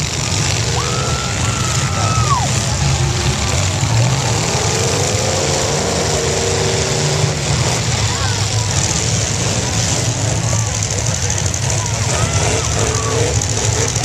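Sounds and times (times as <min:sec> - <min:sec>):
car engines revving roughly: 0:00.0 - 0:14.0.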